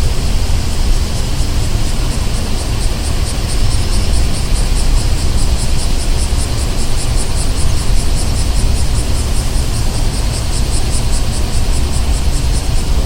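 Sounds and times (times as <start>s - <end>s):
high pulsing buzz: 0.0s - 13.0s
passing traffic rumble: 0.0s - 13.0s.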